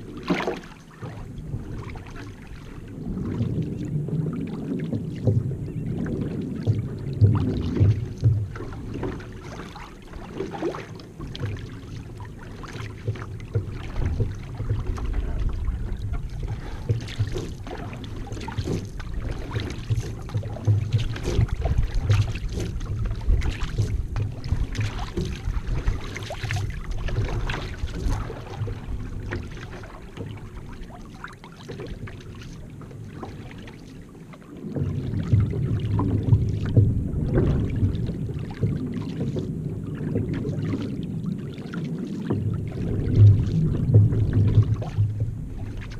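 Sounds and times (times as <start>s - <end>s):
paddle strokes splashing: 0.0s - 45.9s
water rushing along hull: 0.0s - 45.9s
wind rumble on microphone: 0.0s - 45.9s.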